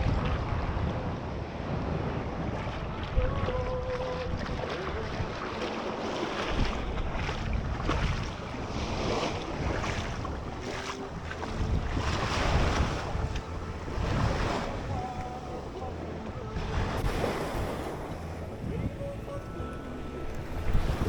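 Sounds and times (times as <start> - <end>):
small waves washing ashore: 0.0 - 21.0
wind buffeting microphone: 0.0 - 21.0.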